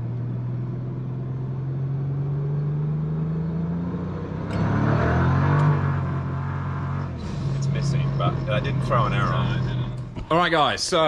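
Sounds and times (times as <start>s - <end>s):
car engine accelerating: 0.0s - 10.4s.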